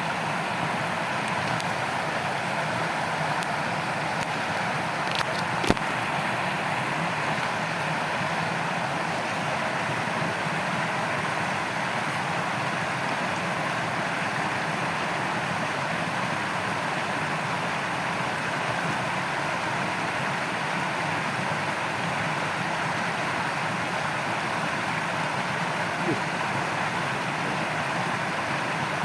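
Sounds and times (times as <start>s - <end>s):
stream water flowing over stones: 0.0s - 29.0s.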